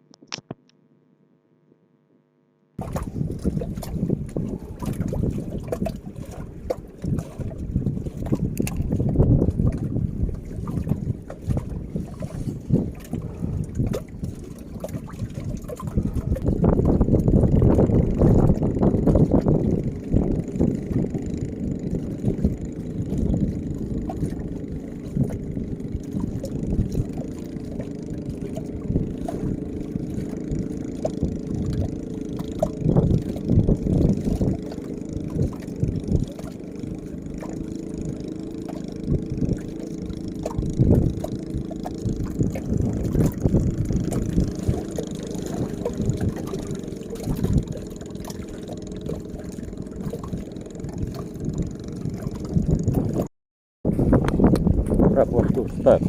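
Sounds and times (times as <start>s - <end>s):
gusting wind buffeting microphone: 2.8s - 56.0s.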